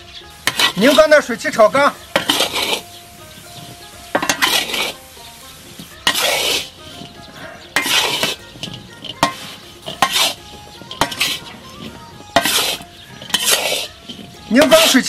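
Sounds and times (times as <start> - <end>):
metal spatula scraping a wok: 0.0 - 15.0.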